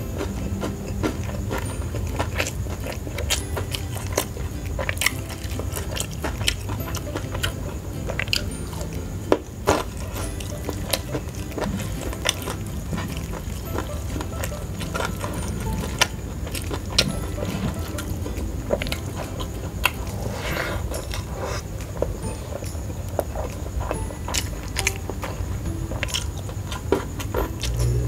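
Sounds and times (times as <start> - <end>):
chewing crispy fried chicken: 0.0 - 28.0.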